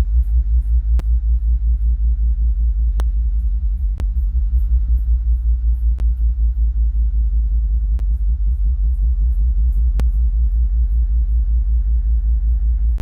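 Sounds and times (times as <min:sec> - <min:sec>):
bass-heavy music on sound system: 0:00.0 - 0:13.0.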